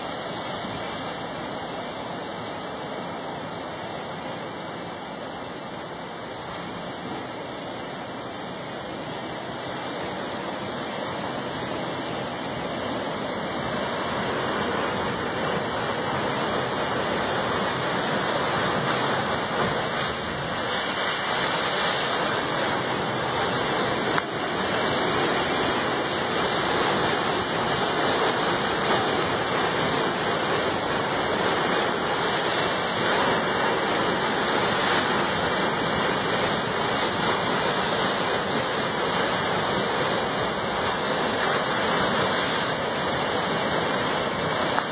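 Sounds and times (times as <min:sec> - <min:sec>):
ocean surf breaking on rocks: 0:00.0 - 0:44.9.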